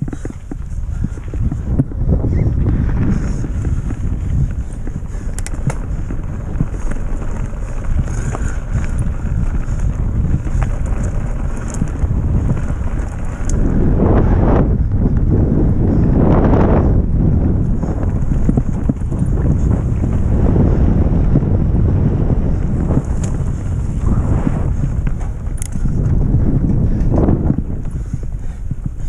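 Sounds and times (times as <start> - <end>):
tyres rumbling on gravel: 0.0 - 28.5
bike clicks and rattles: 0.0 - 29.0
wind buffeting microphone: 0.0 - 29.0.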